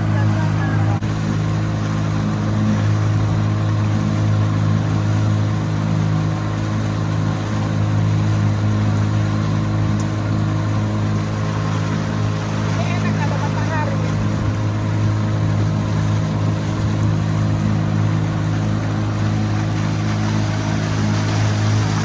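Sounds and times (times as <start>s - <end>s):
motorboat engine droning: 0.0s - 22.0s
water rushing: 0.0s - 22.0s.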